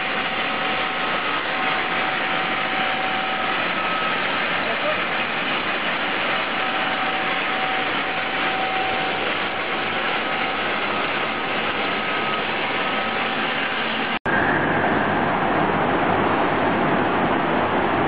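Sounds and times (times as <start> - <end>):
feed grinder machine running: 0.0 - 15.0.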